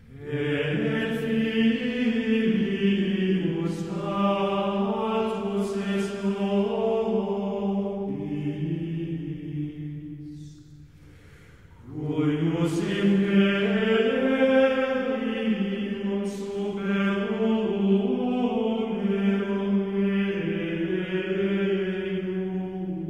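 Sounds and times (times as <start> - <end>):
slow liturgical chant: 0.0 - 23.0.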